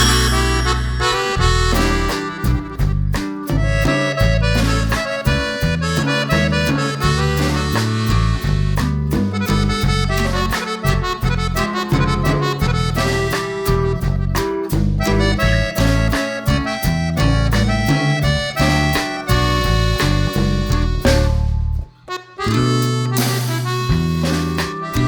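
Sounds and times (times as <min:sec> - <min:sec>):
pulsing bass line: 0:00.0 - 0:25.0
reedy lead melody: 0:00.0 - 0:25.0.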